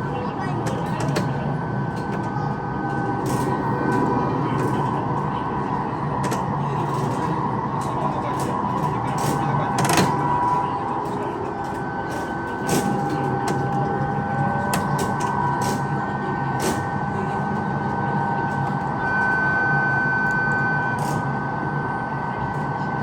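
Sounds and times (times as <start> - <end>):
train running on rails: 0.0 - 23.0.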